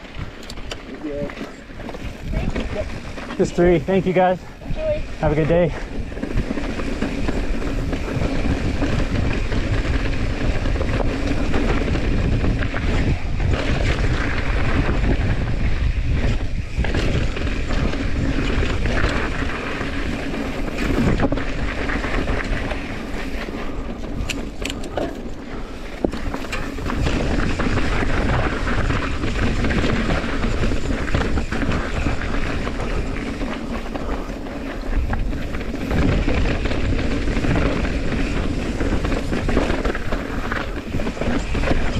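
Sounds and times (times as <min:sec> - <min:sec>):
bike rattling over rock: 0:00.0 - 0:41.9
wind rush on microphone: 0:00.0 - 0:41.9.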